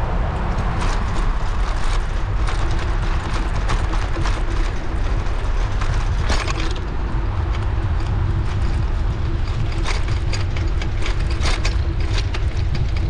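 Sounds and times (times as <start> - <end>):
wind buffeting microphone: 0.0 - 13.0
bike clicks and rattles: 0.4 - 13.0.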